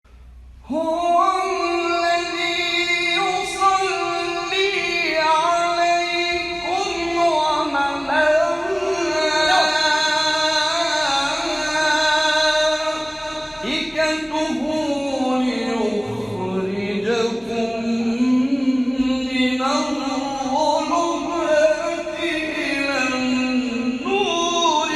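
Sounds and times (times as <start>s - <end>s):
man reciting melodically: 0.6s - 24.9s.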